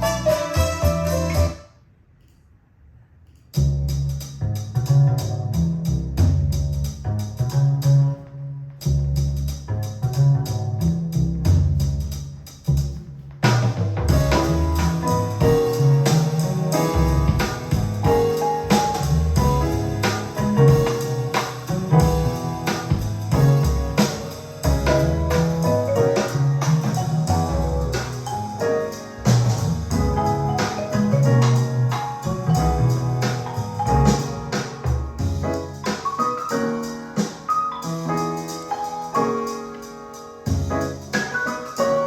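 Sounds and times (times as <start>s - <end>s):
piano-led instrumental music: 0.0s - 1.8s, 4.1s - 42.0s.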